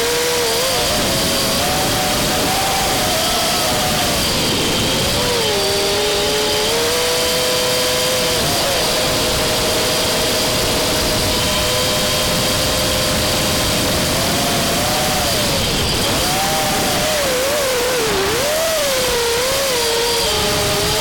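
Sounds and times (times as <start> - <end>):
drone motors whining: 0.0 - 21.0
steady rushing noise: 0.0 - 21.0.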